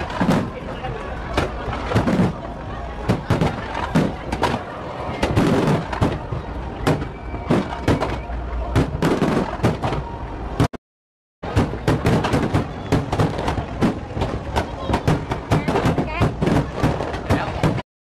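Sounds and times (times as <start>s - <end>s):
fireworks bangs and pops: 0.0s - 10.8s, 11.4s - 17.8s.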